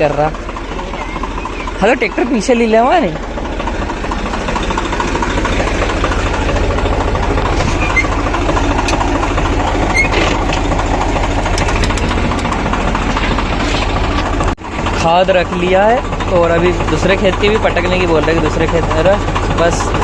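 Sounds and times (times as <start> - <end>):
diesel tractor engine idling: 0.0 - 20.0.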